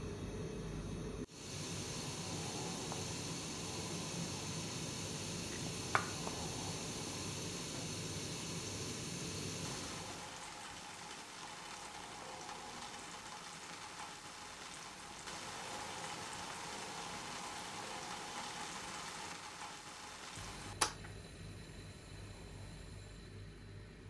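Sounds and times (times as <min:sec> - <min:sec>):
broth bubbling in a pot: 0:01.2 - 0:21.2.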